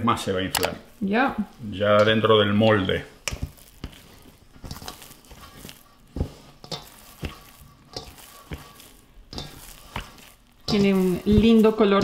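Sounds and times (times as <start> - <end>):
hands handling sticky dough: 1.9 - 12.0.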